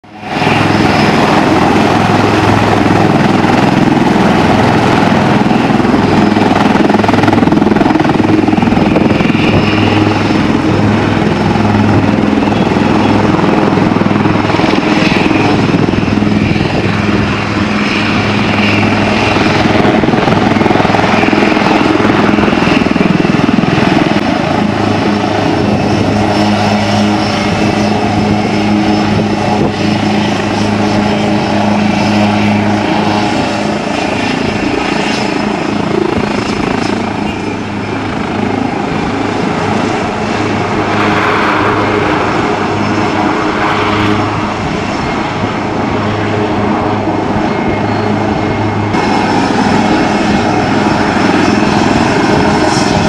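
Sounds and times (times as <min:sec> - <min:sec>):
helicopter engines and rotors: 0:00.0 - 0:53.0.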